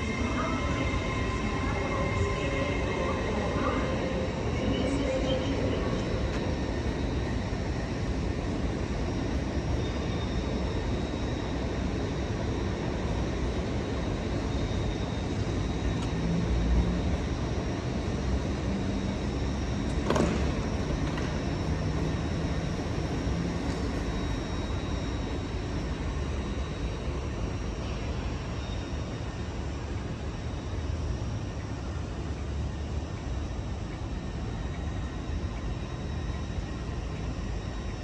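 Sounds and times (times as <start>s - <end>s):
rumble of standing trains: 0.0s - 38.0s.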